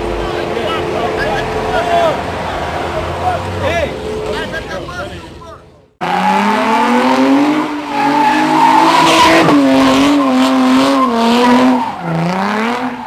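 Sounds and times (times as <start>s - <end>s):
car engine at high revs: 0.0s - 4.8s, 6.0s - 13.0s
tires squealing: 0.0s - 13.0s.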